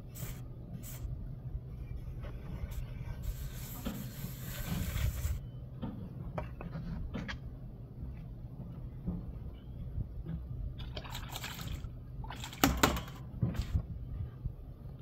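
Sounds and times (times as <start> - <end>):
steady low rumble: 0.0 - 12.3, 13.3 - 15.0.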